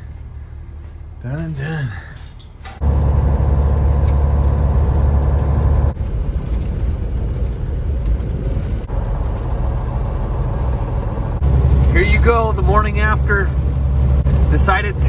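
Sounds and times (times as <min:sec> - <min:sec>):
road noise: 0:00.0 - 0:15.0
truck diesel engine drone: 0:00.0 - 0:15.0.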